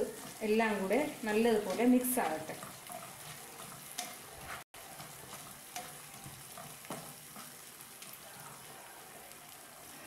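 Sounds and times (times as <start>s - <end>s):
spatula scraping a pan: 0.0s - 8.7s
vegetables sizzling in a frying pan: 0.0s - 10.0s.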